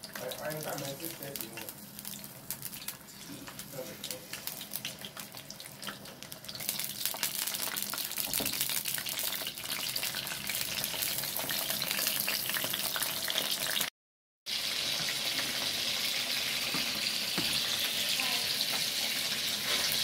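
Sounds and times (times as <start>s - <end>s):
fish deep-frying in oil: 0.0s - 13.9s, 14.5s - 20.0s.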